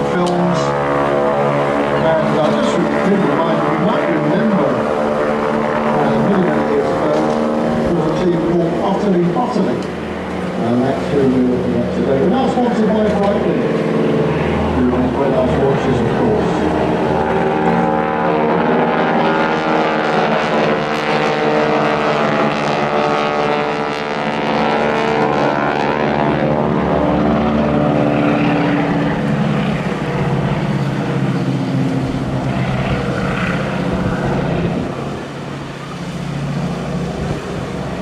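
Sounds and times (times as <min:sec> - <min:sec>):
propeller plane engines droning: 0:00.0 - 0:38.0.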